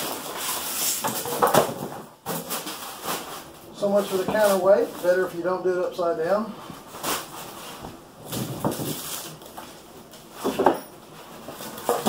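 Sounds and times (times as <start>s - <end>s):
parts rustling in cardboard box: 0.0s - 5.3s, 6.6s - 12.0s.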